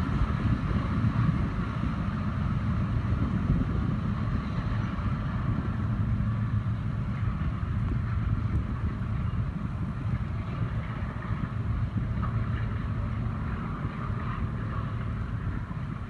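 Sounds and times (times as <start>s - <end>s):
diesel locomotive engine humming: 0.0s - 16.0s.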